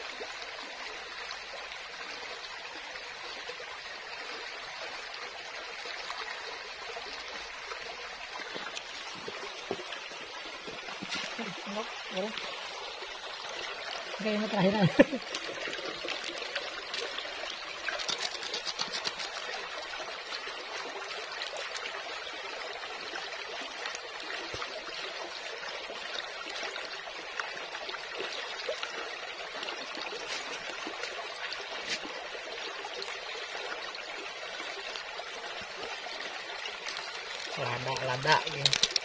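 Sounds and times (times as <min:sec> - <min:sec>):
stream trickling over rocks: 0:00.0 - 0:39.0.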